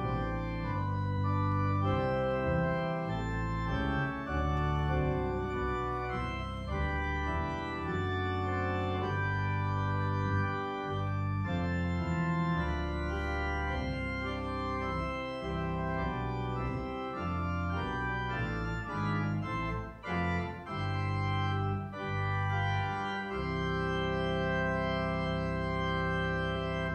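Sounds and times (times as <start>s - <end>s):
organ playing sustained chords: 0.0s - 26.9s.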